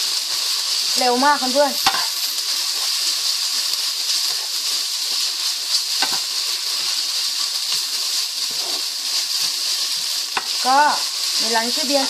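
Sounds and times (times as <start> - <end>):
noodles sizzling in a wok: 0.0 - 12.0.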